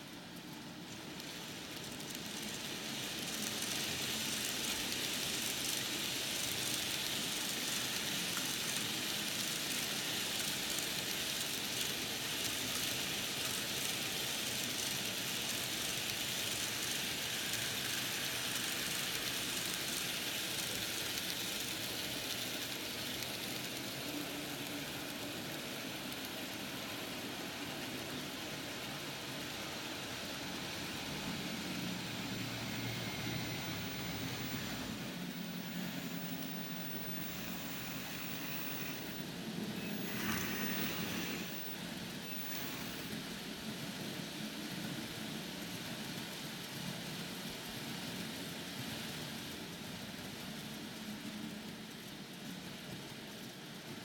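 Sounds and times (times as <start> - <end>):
model train whirring on track: 0.0 - 54.0.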